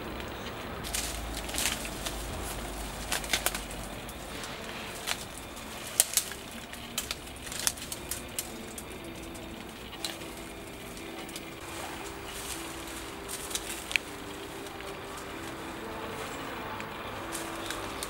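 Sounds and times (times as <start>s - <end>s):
twigs snapping and crackling: 0.0s - 18.0s.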